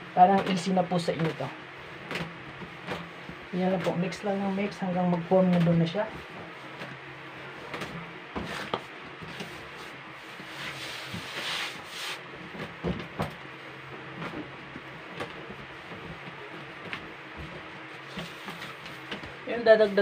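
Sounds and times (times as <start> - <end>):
dough rubbing and sliding: 0.2 - 12.8, 13.5 - 20.0.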